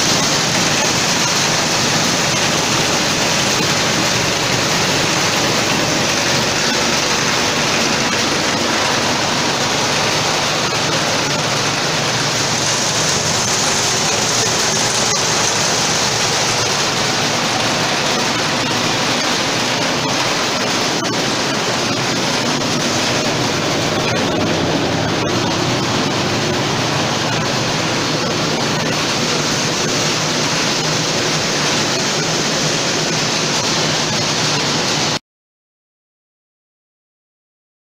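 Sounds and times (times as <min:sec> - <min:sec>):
thresher engine running: 0:00.0 - 0:35.2.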